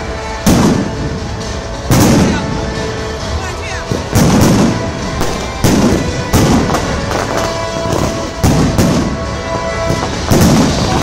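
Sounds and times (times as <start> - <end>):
firework rumble and crackle: 0.0 - 11.0
firework bangs: 0.4 - 2.9, 3.8 - 11.0.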